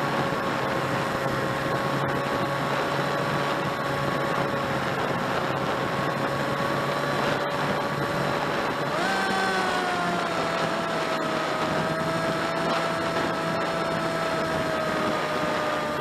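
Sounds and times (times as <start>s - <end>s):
electric motor and propeller whining: 0.0s - 16.0s
rushing wind: 0.0s - 16.0s.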